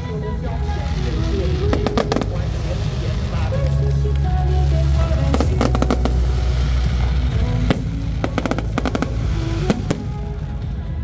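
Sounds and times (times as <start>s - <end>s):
background music: 0.0s - 11.0s
fireworks bursting and crackling: 0.0s - 11.0s.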